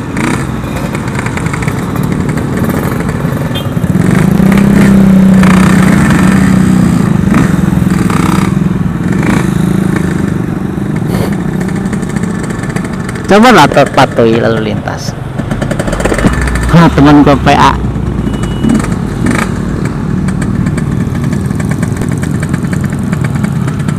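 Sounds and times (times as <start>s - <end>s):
motorcycle engine while riding: 0.0s - 23.9s.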